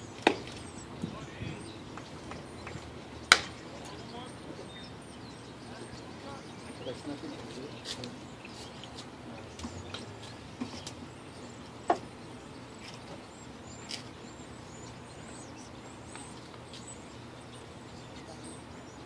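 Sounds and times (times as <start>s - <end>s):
ballpark background noise: 0.0s - 19.0s
high chirps: 0.0s - 19.0s.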